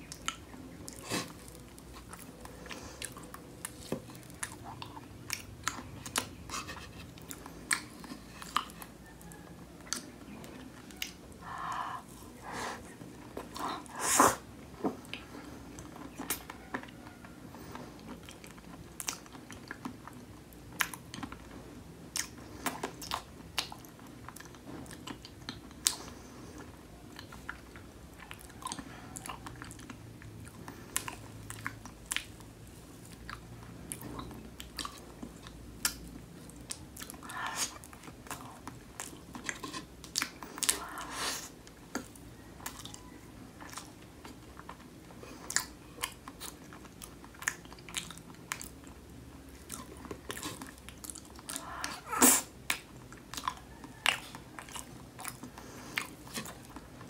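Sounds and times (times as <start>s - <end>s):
close-miked chewing: 0.0s - 57.0s.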